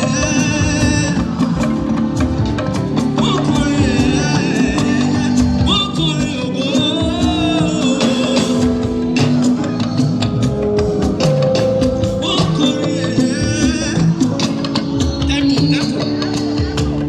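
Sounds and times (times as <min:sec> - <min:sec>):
percussion: 0:00.0 - 0:17.0
person singing: 0:00.0 - 0:17.0.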